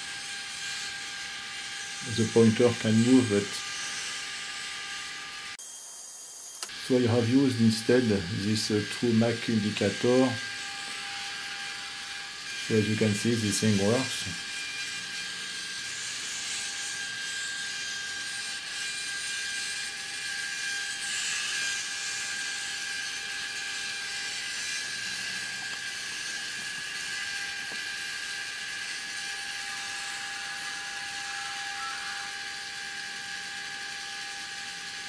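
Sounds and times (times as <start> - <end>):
servo motor whine: 0.0 - 35.0.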